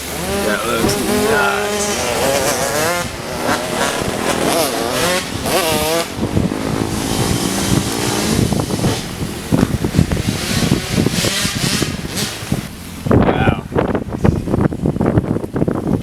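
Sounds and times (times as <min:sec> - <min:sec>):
dirt bike engines revving: 0:00.0 - 0:16.0
wind buffeting microphone: 0:00.0 - 0:16.0.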